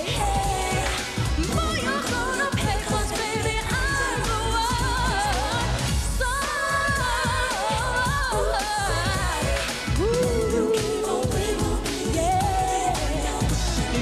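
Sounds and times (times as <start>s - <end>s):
band with steady beat: 0.0s - 14.0s
woman singing pop song: 0.0s - 14.0s.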